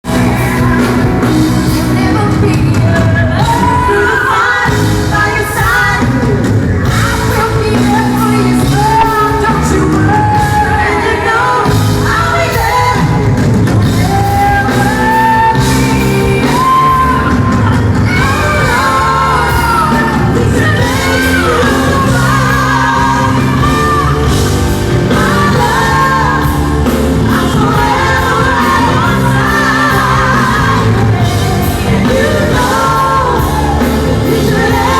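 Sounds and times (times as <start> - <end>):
crowd shouting and cheering: 0.0 - 34.9
woman singing pop ballad with band: 0.0 - 34.9.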